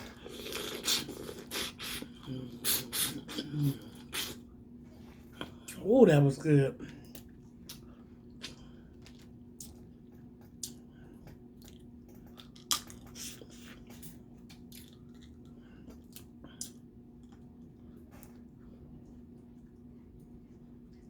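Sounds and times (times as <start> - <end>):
chewing: 0.0 - 4.5, 6.9 - 21.0.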